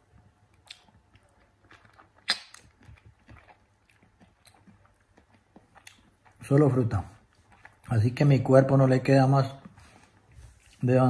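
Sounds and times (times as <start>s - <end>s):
person chewing mango: 0.0s - 10.8s.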